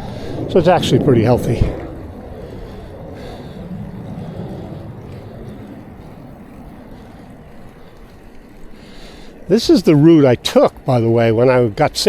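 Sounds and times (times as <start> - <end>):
wind and bicycle tyre rumble: 0.0 - 12.0.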